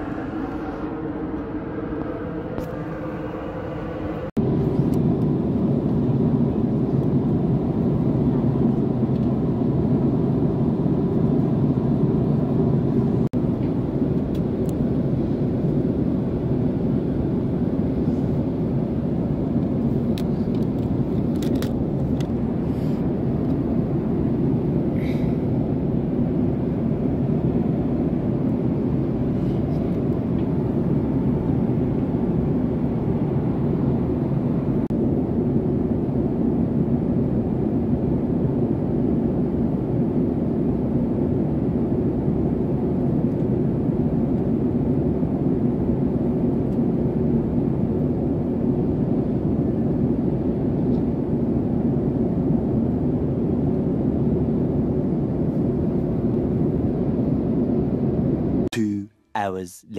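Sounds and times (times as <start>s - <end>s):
airplane cabin drone: 0.0s - 59.7s.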